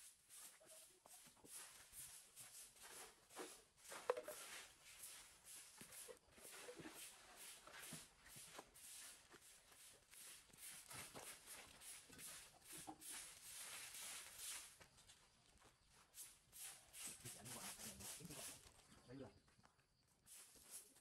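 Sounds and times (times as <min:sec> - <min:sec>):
broom sweeping tiled floor: 0:00.0 - 0:15.0, 0:16.0 - 0:18.7, 0:20.2 - 0:21.0.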